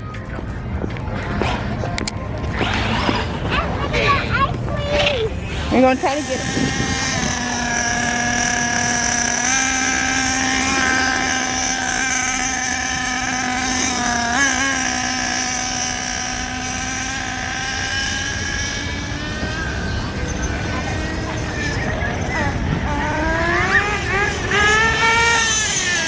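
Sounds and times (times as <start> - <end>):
small motor whining: 1.1 - 26.0.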